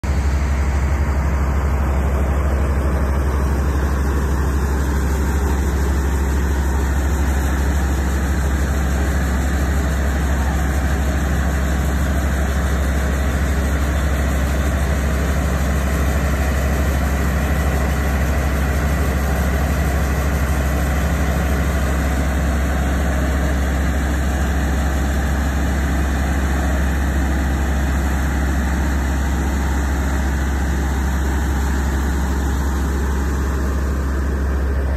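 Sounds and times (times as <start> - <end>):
heavy engine idling: 0.0 - 34.9.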